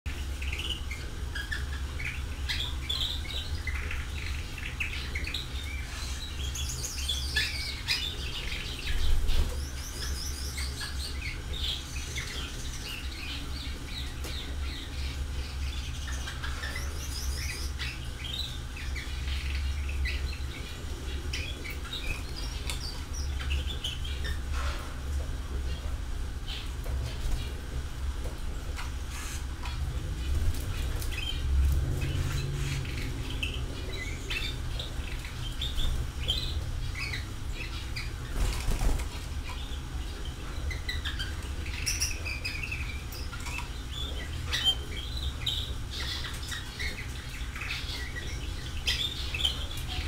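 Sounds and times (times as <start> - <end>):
small birds chirping: 0.1 - 50.0
steady low hum: 0.1 - 50.0.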